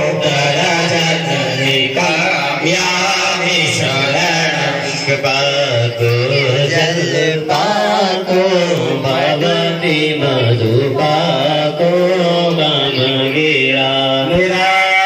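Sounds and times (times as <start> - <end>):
devotional chanting: 0.0 - 15.0.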